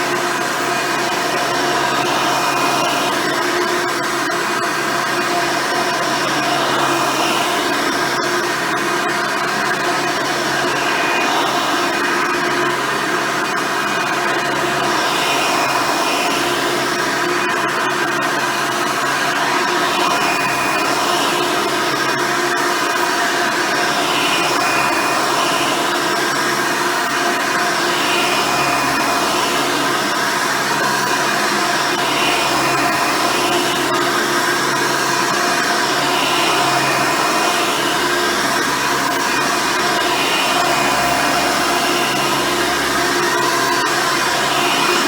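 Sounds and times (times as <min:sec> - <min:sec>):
upright vacuum cleaner running: 0:00.0 - 0:45.0.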